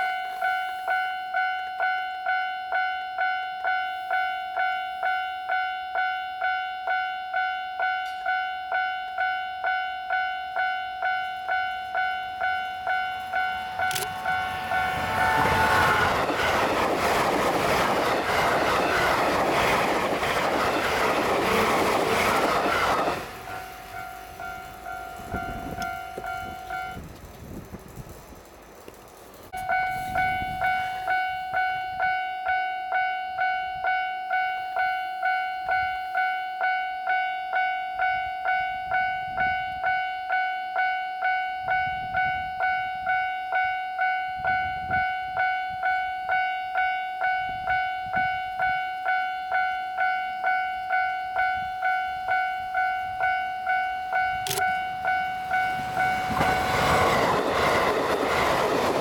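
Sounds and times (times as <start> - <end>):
level-crossing alarm dinging: 0.0 - 27.2, 29.5 - 59.0
electric train passing: 0.0 - 59.0.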